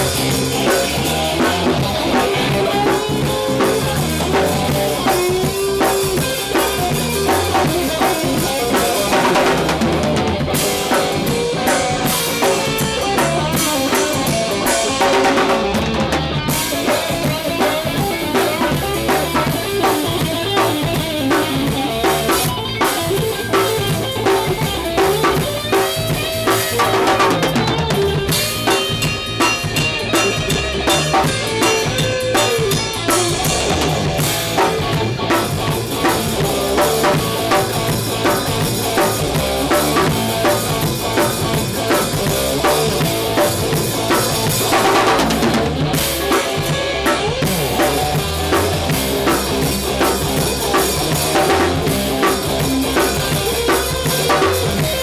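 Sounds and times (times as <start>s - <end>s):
drum kit beat: 0.0s - 55.0s
electric bass: 0.0s - 55.0s
electric guitar: 0.0s - 55.0s.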